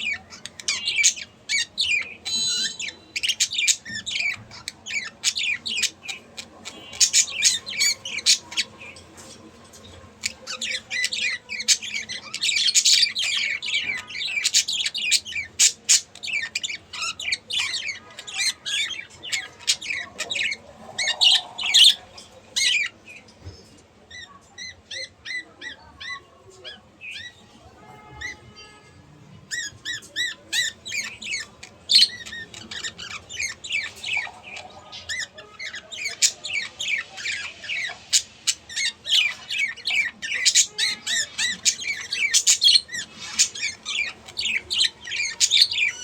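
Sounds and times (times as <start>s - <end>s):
budgerigars chattering: 0.0s - 23.3s, 29.5s - 46.0s.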